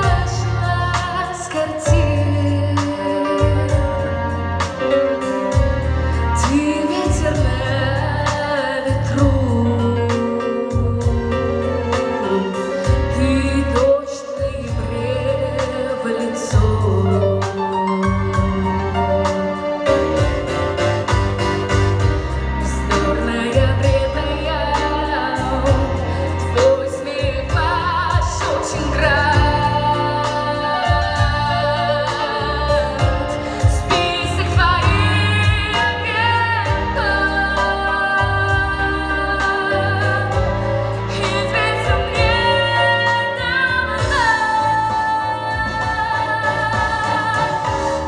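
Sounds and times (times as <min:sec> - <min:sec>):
woman singing: 0:00.0 - 0:04.9, 0:06.3 - 0:20.0, 0:22.6 - 0:48.0
bass and keyboards backing track: 0:00.0 - 0:48.0.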